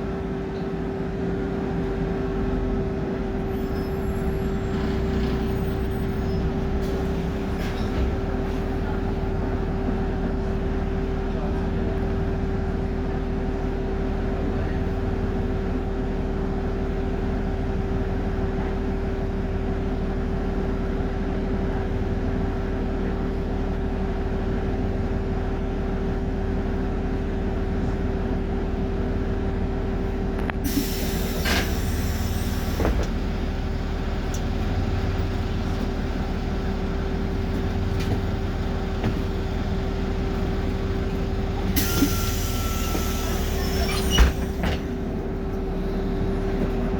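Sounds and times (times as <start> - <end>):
bus engine hum with whine: 0.0 - 46.9.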